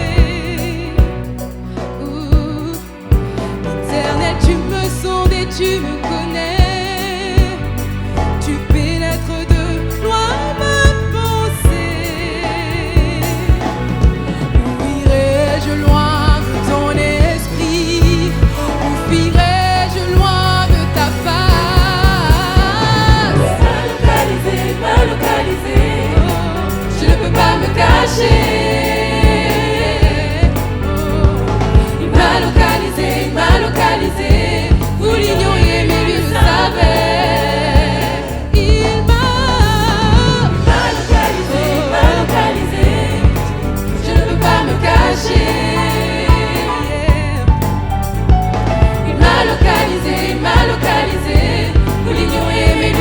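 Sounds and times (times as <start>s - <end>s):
gospel choir singing with band: 0.0s - 53.0s.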